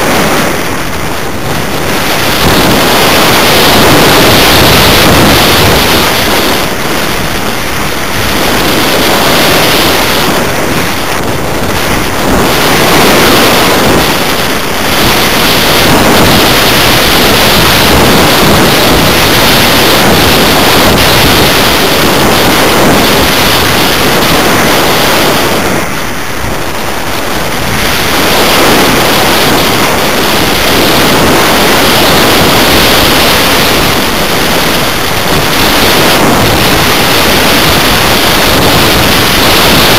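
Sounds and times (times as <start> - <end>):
airflow rushing over microphone: 0.0 - 39.9.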